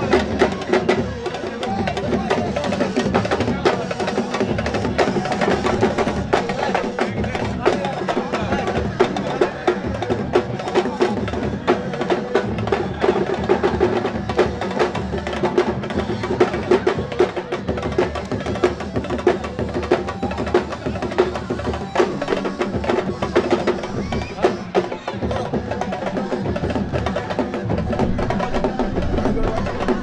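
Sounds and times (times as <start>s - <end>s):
hand drums playing fast rhythm: 0.0s - 30.0s.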